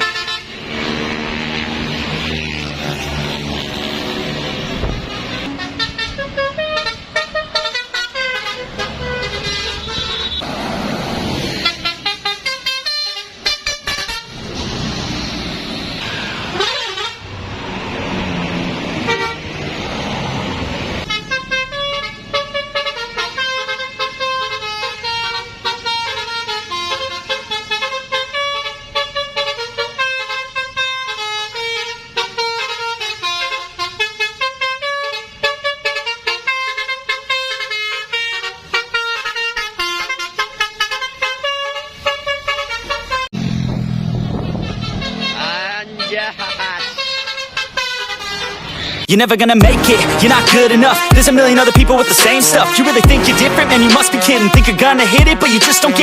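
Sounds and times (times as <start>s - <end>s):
multi-tone bus horn tunes: 0.0s - 10.5s, 11.6s - 14.5s, 16.0s - 17.4s, 19.0s - 19.6s, 21.0s - 43.5s, 44.4s - 56.0s
passing bus engine: 0.0s - 56.0s
road noise: 0.0s - 56.0s.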